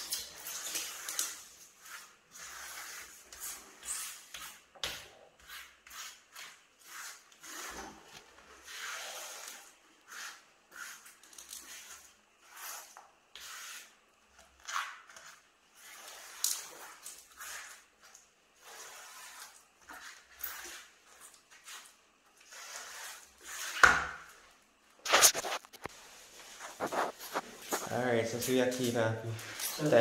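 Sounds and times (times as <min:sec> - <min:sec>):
grout float scraping tiles: 0:00.0 - 0:30.0.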